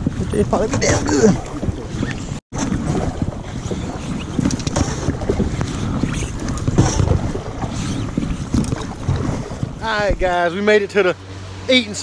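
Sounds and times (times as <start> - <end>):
paddle splashing in water: 0.0 - 10.2
wind buffeting microphone: 0.0 - 11.6.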